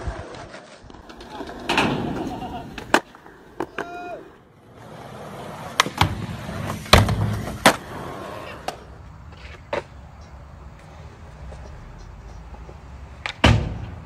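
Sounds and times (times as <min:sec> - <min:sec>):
skateboard clacking on ground: 0:00.0 - 0:14.0
skateboard wheels rolling on concrete: 0:00.0 - 0:14.0.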